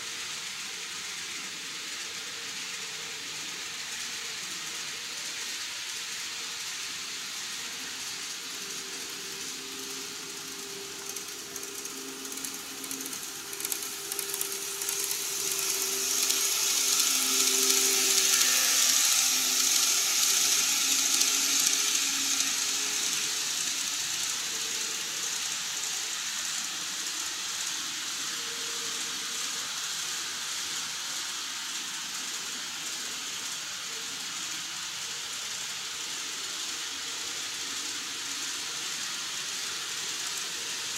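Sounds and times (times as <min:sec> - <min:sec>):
model train running on track: 0:00.0 - 0:40.9.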